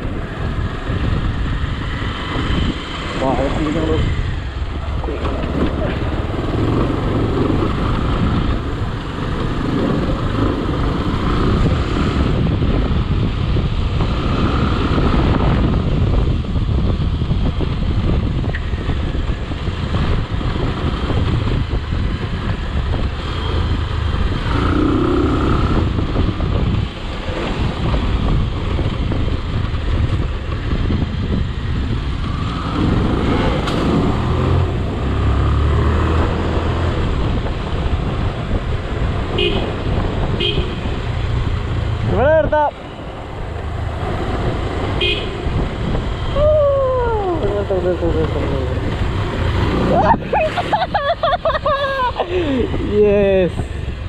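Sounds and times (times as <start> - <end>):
motor vehicle driving on rough road: 0.0 - 54.0.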